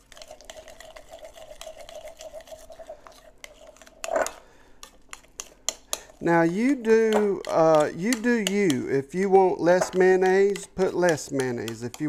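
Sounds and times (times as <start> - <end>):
fork mashing in glass bowl: 0.0 - 12.0.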